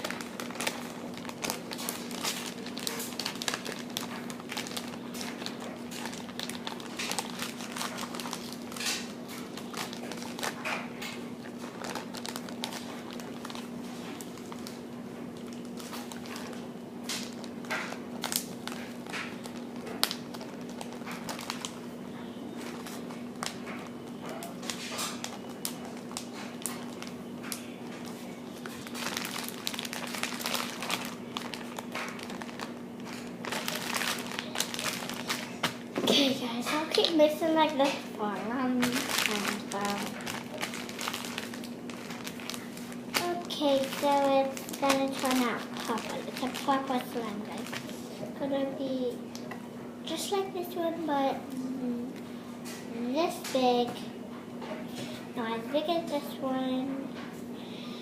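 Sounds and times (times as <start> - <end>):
plastic bag crinkling: 0.0 - 49.5
steady low hum: 0.0 - 58.0.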